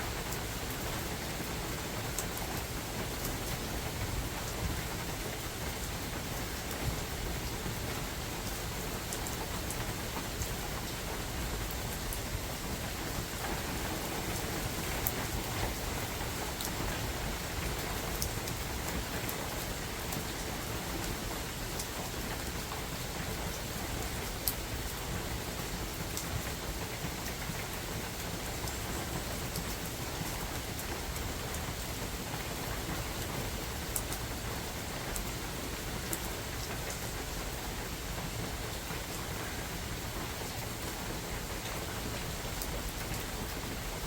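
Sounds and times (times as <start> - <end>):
rain falling in forest: 0.0 - 44.0.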